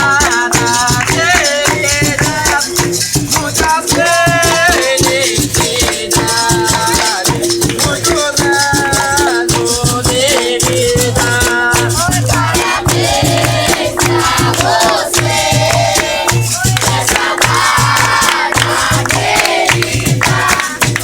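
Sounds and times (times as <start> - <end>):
shaker rattle: 0.0 - 21.0.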